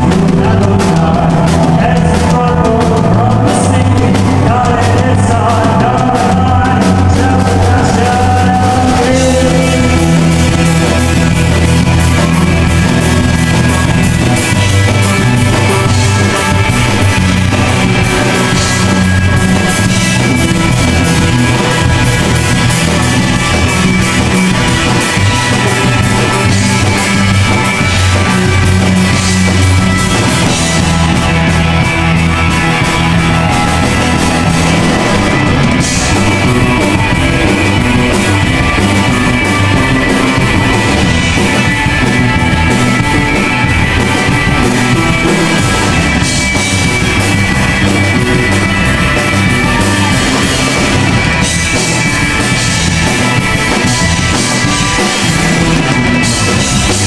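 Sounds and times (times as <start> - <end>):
drums: 0.0 - 57.0
electric guitar: 0.0 - 57.0
man singing: 0.0 - 57.0.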